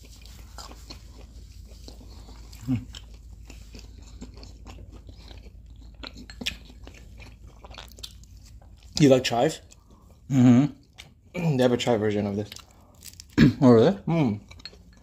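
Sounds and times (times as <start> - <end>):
close chewing and biting: 0.0 - 13.4, 14.0 - 15.0.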